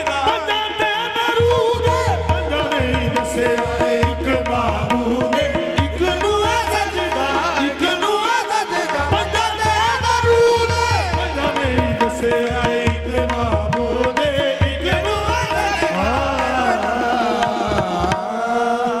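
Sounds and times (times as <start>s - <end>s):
harmoniums holding notes: 0.0s - 19.0s
man singing with pitch glides: 0.0s - 19.0s
tabla drumming: 0.0s - 19.0s.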